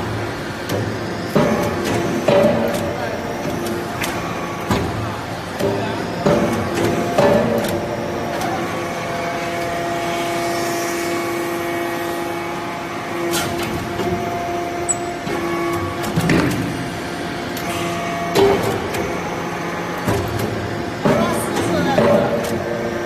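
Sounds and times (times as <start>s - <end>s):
hydraulic pump and motor hum: 0.0s - 23.0s.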